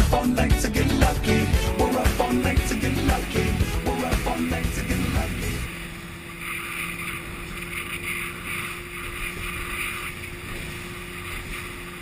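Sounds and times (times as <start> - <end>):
speedboat engine running: 0.0 - 12.0
water rushing along hull: 0.7 - 12.0.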